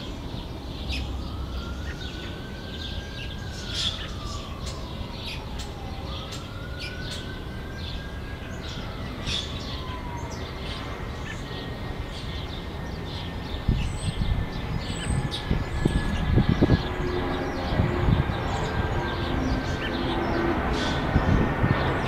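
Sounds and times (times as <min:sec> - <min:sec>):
faint siren: 0:00.0 - 0:22.0
small songbirds chirping: 0:00.0 - 0:22.0.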